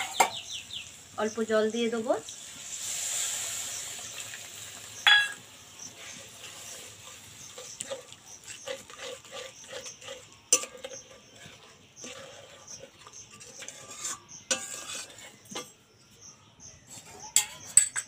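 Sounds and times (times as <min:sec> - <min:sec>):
spatula scraping in a pan: 0:02.6 - 0:16.2, 0:16.8 - 0:18.0.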